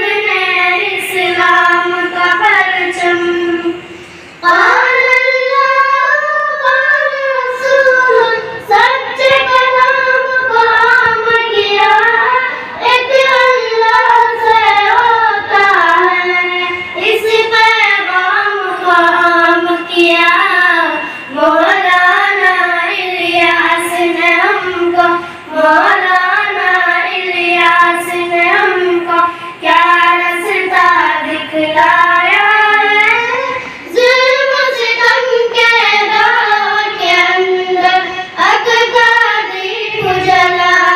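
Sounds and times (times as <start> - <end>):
girl singing devotional song: 0.0 - 40.9.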